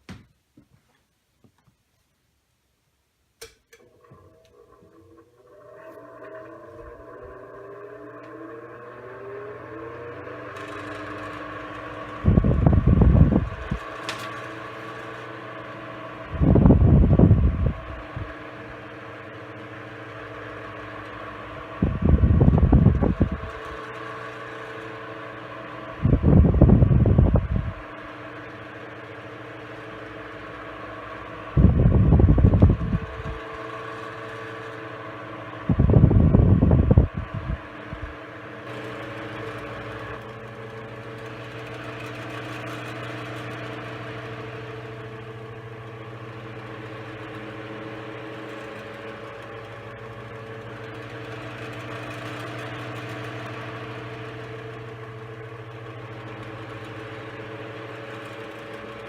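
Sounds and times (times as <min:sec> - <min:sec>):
table fan running: 0:03.4 - 0:59.0.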